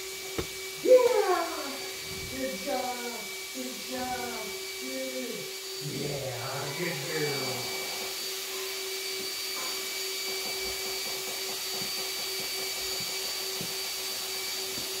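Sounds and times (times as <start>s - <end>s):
blower motor hum and whine: 0.0s - 15.0s.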